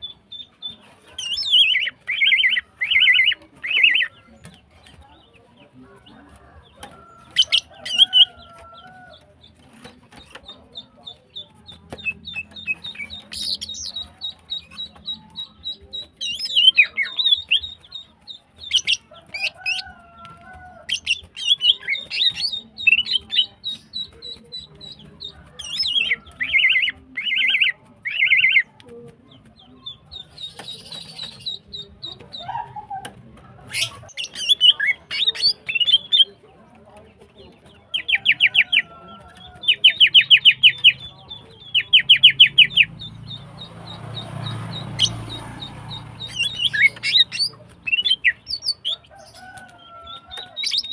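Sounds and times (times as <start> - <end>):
bird chirping and trilling: 0.0 - 4.6, 6.6 - 20.0, 20.8 - 28.7, 29.8 - 33.0, 33.6 - 36.4, 37.6 - 50.9.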